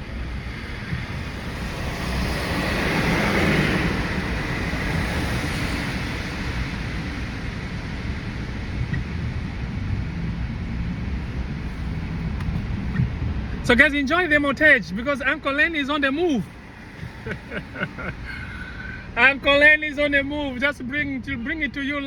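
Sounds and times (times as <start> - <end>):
car road noise rumble: 0.0 - 22.0.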